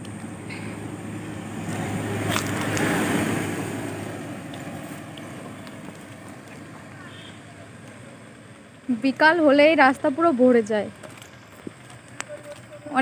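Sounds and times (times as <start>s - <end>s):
pickup truck passing: 0.0s - 13.0s.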